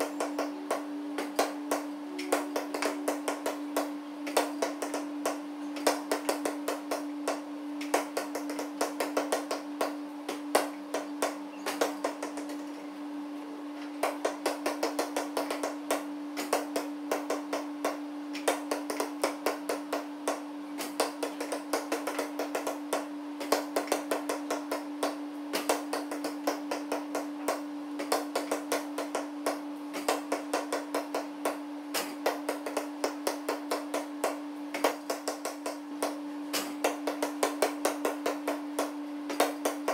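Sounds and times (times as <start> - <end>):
basketball bouncing on gym floor: 0.0 - 12.6, 14.0 - 39.9
steady low hum: 0.0 - 39.9.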